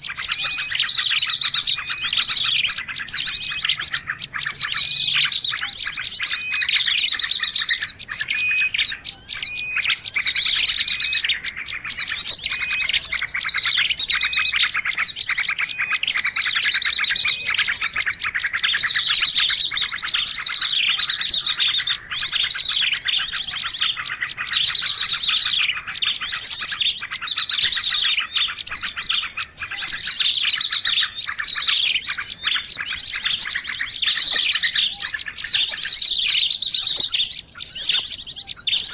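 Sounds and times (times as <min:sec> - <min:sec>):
chorus of small birds chirping: 0:00.0 - 0:38.9.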